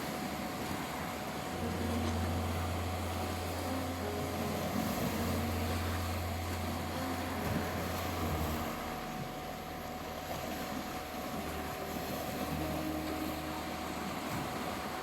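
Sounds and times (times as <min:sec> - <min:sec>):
droning music pad with soft notes: 0:00.0 - 0:15.0
sea waves washing on beach: 0:00.0 - 0:15.0
steady tone: 0:00.0 - 0:15.0.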